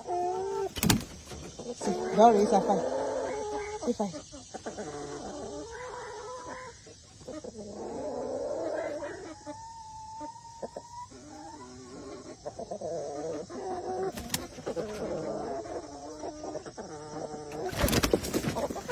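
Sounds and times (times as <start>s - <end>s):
chickens clucking and calling: 0.0s - 18.9s.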